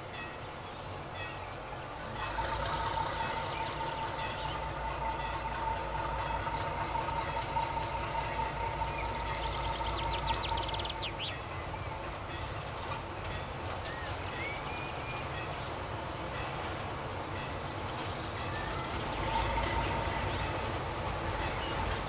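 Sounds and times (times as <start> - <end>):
distant diesel locomotive engine: 0.0 - 22.0
songbirds chirping: 0.0 - 22.0.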